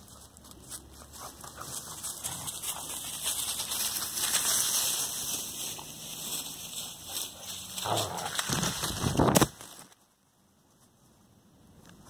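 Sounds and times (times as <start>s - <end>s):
puppies rustling through dry grass: 0.0s - 10.1s.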